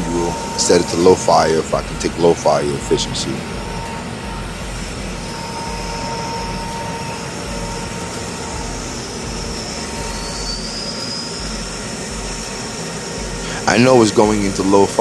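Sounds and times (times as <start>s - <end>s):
boiler burner roaring: 0.0s - 15.0s
high burner screech: 0.0s - 15.0s.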